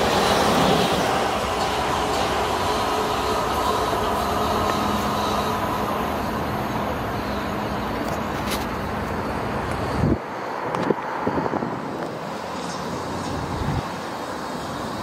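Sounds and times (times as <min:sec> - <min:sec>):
electric train rumble and whine: 0:00.0 - 0:15.0.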